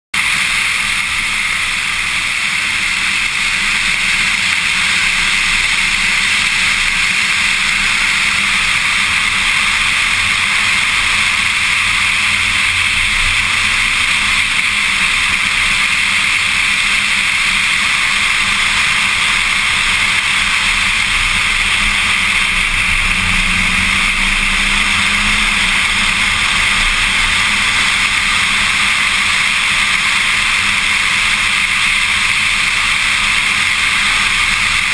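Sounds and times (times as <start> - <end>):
faint car engine: 0.2 - 34.9
wind and road noise: 0.2 - 34.9.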